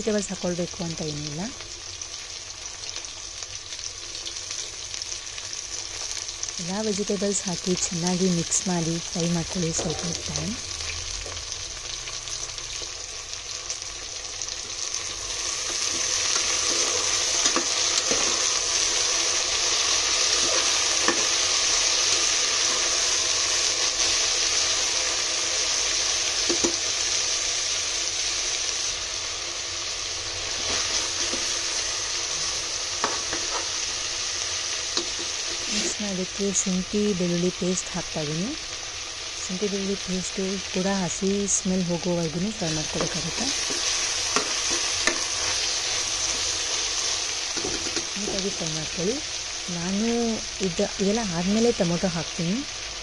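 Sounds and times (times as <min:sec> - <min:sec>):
vegetables sizzling in hot oil: 0:00.0 - 0:53.0.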